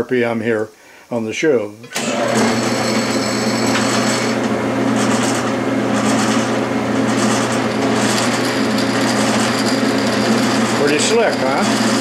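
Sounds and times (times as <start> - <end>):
metal lathe humming: 1.9 - 12.0.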